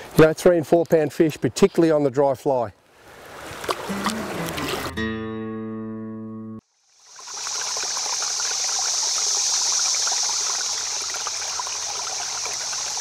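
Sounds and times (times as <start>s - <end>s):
stream water rushing and trickling: 0.0s - 5.0s, 6.7s - 13.0s.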